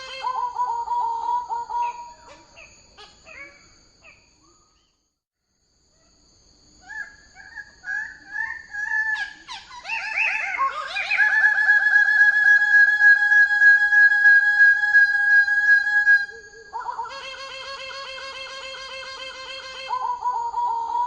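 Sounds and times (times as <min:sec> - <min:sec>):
bird calling: 0:00.0 - 0:05.0, 0:06.8 - 0:21.0.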